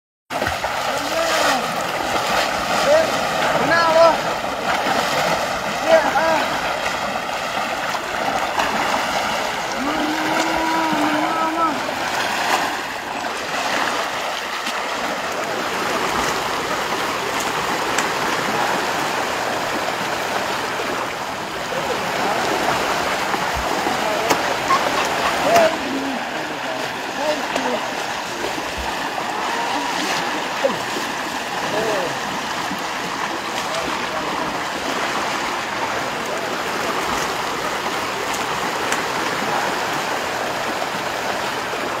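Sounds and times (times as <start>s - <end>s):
elephant splashing in water: 0.3s - 42.0s
river water flowing: 0.3s - 42.0s.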